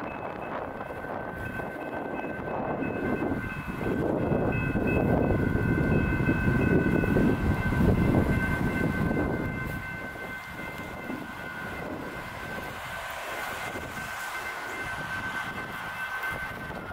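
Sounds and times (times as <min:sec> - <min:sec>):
passing train rumbling: 0:00.0 - 0:16.9
railroad crossing bells ringing: 0:00.0 - 0:16.9.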